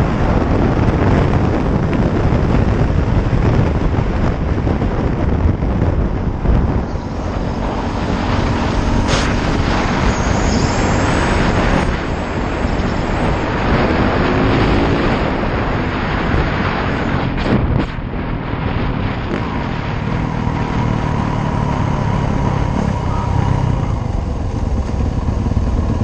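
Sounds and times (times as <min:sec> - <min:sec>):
dirt bike engine running: 0:00.0 - 0:26.0
wind noise on microphone: 0:00.0 - 0:26.0.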